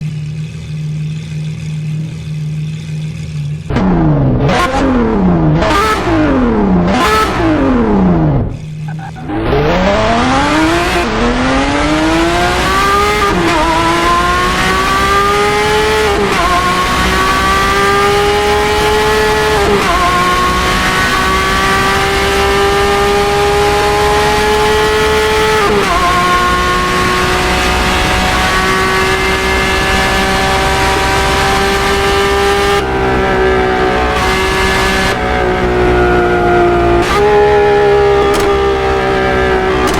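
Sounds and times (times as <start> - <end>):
sports car engine revving: 0.0 - 39.9
car accelerating through gears: 3.6 - 39.9.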